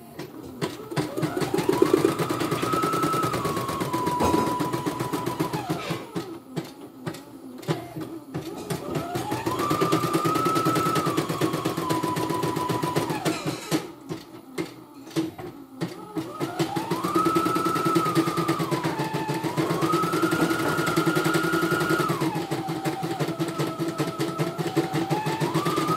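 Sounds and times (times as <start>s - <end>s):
embroidery machine stitching: 0.6s - 14.2s, 15.8s - 25.9s.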